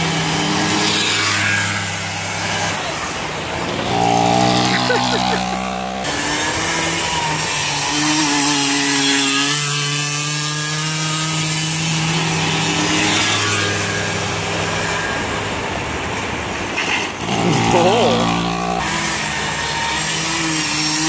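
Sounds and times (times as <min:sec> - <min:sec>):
small two-stroke engines buzzing: 0:00.0 - 0:21.0.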